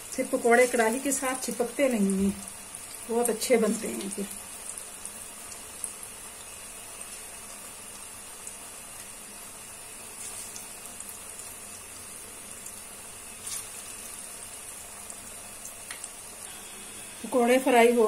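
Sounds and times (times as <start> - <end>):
food deep-frying in oil: 0.0 - 18.0.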